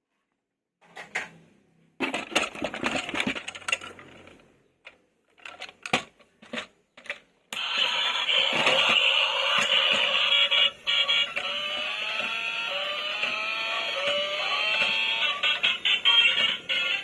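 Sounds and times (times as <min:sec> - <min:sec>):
plastic toys rattling and clicking: 0:02.0 - 0:17.0.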